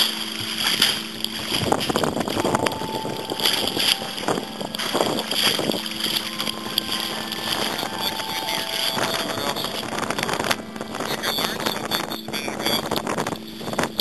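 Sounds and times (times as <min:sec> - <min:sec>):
water splashing around kayak: 0:00.0 - 0:14.0
wind buffeting microphone: 0:00.0 - 0:14.0.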